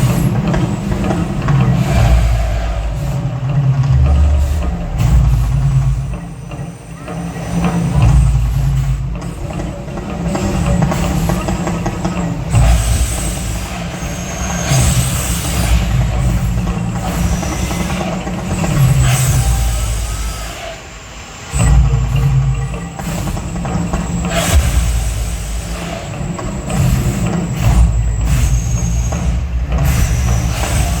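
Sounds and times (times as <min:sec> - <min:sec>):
deep continuous rumble: 0:00.0 - 0:31.0
hissing bursts: 0:00.0 - 0:31.0.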